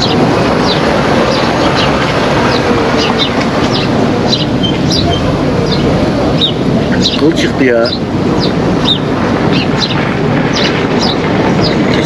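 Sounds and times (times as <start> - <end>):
small birds chirping: 0.0 - 12.0
steady rushing background noise: 0.0 - 12.0.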